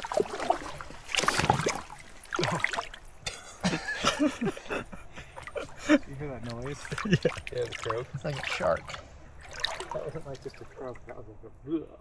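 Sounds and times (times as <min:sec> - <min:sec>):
water splashing and dribbling: 0:00.0 - 0:11.6.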